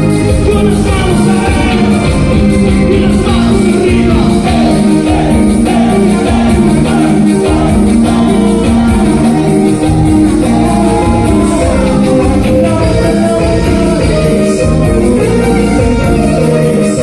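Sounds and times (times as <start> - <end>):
band playing a song: 0.0 - 17.0
person singing: 0.0 - 17.0.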